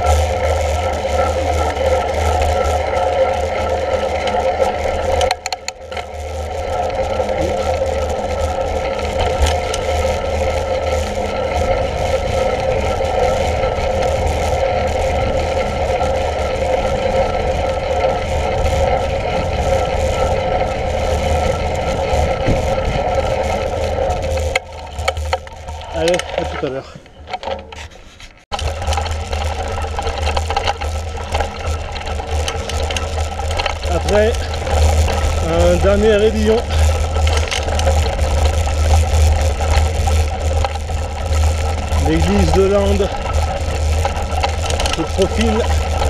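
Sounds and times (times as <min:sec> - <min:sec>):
wind rumble on microphone: 0:00.0 - 0:26.5, 0:28.5 - 0:46.0
bicycle tyres rolling hum: 0:00.0 - 0:46.0
bike rattling over rough track: 0:00.0 - 0:46.0.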